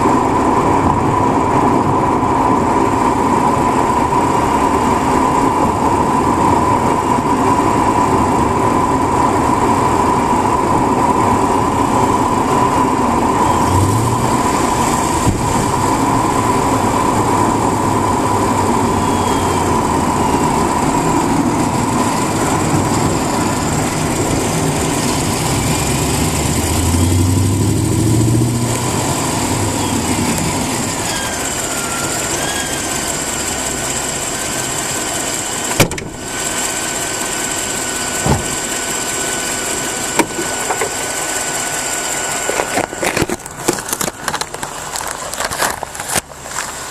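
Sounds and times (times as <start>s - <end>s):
car engine running: 0.0s - 46.9s
steady high whine: 0.0s - 46.9s.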